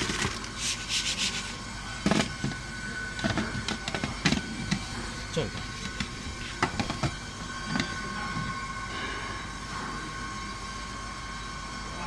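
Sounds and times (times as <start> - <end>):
high steady whine: 0.0 - 12.0
machine humming: 0.0 - 12.0.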